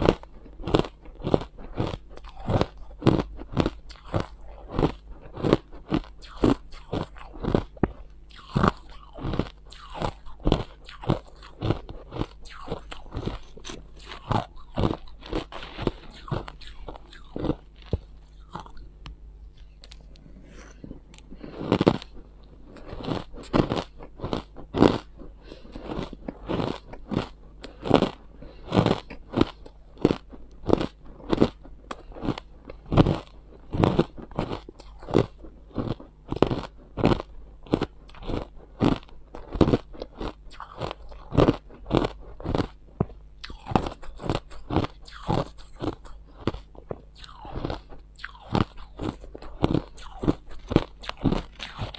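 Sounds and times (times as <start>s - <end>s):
ice being chewed: 0.0s - 18.9s, 19.5s - 51.9s
low steady hum: 0.0s - 51.9s.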